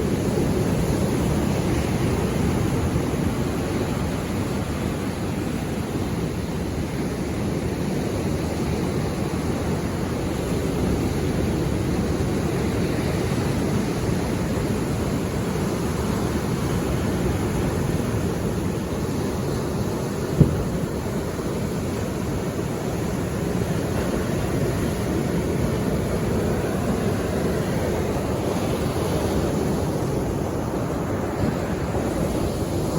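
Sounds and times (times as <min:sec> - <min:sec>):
sea waves breaking on shore: 0:00.0 - 0:32.9.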